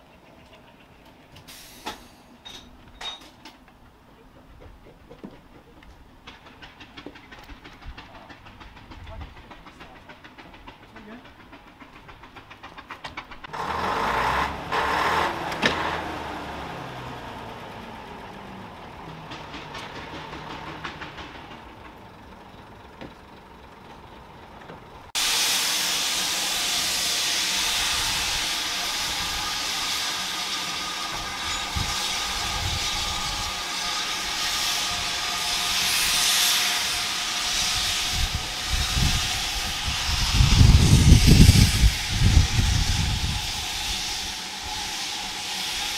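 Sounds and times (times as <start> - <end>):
diesel railcar engine running: 0.0 - 45.9
steam locomotive hissing: 0.0 - 45.9.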